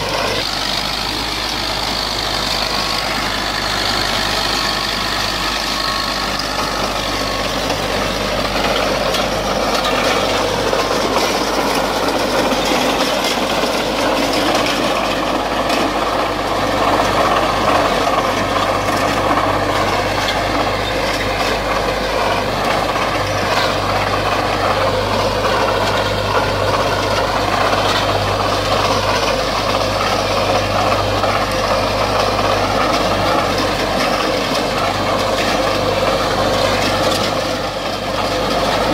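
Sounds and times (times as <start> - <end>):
harrow rotors churning: 0.0 - 38.9
tractor diesel engine under load: 0.0 - 38.9.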